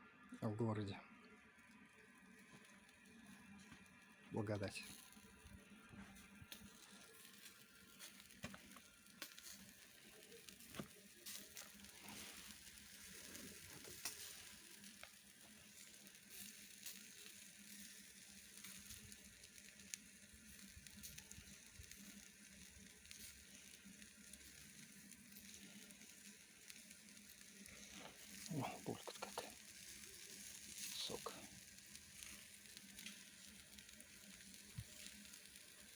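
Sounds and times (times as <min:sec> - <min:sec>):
skewers sizzling on grill: 0:00.2 - 0:35.9
small pops and crackles: 0:01.2 - 0:35.9.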